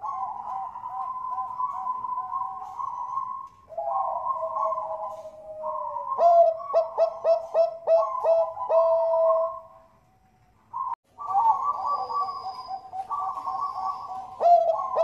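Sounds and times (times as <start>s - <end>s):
doves cooing: 0.0s - 10.0s, 10.7s - 15.0s.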